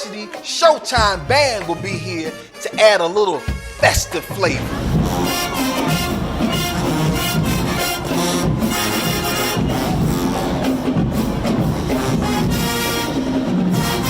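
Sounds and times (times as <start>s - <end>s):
drums beating: 0.0s - 14.0s
marching band playing: 0.0s - 14.0s.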